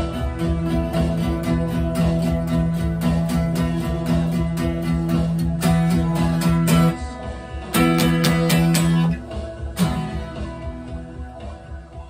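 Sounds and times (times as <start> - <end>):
guitar strumming: 0.0 - 12.0.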